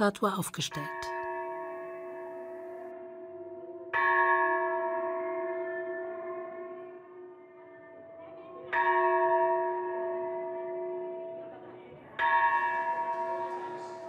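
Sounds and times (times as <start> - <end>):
temple bell ringing: 0.6 - 14.0.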